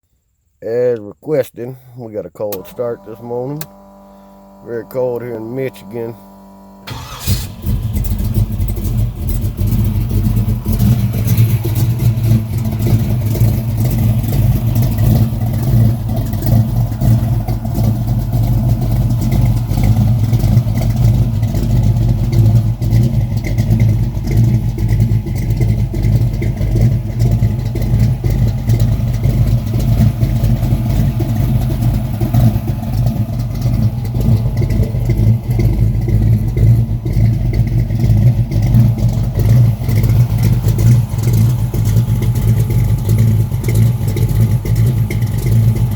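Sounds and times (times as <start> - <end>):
car engine idling: 0.7 - 45.9.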